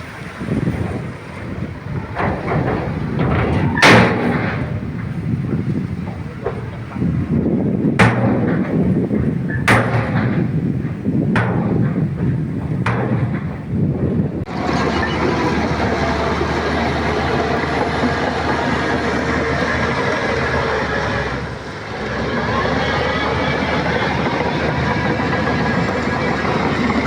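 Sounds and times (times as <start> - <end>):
bulldozer diesel engine under load: 0.0 - 27.0
steel tracks clanking: 0.0 - 27.0.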